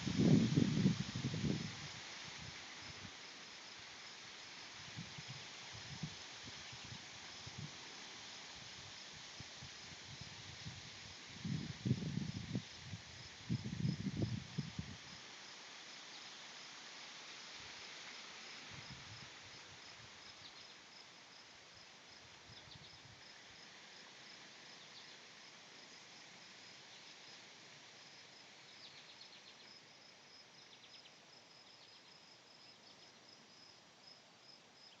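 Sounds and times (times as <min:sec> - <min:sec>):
wind rustling leaves: 0:00.0 - 0:35.0.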